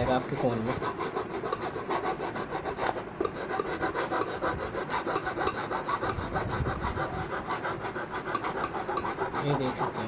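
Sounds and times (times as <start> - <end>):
hand rubbing foam: 0.0 - 10.0.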